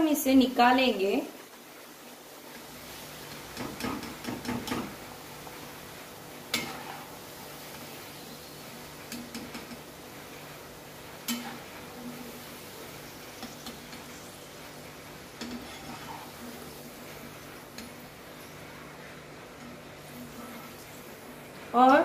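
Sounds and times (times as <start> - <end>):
fries sizzling in hot oil: 0.0 - 22.0.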